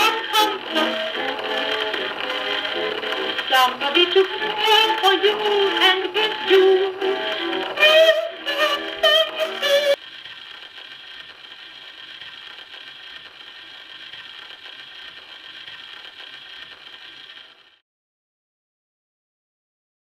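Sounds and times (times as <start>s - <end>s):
gramophone surface hiss and crackle: 0.0s - 17.6s
sung record: 0.0s - 17.8s.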